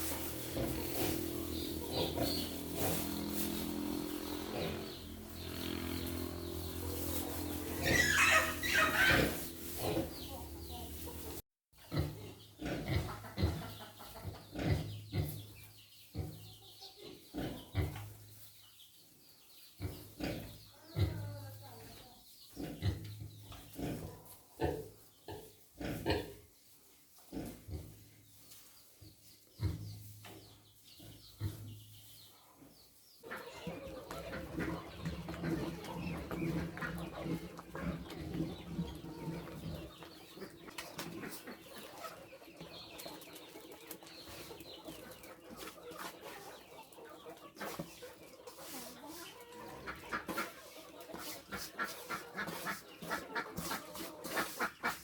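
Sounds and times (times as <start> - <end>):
poultry clucking: 0.0 - 55.0.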